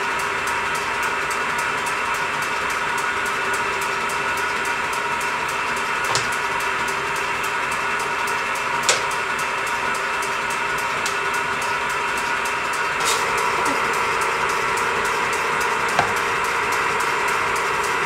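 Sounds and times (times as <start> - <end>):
power hammer motor humming: 0.0 - 18.0.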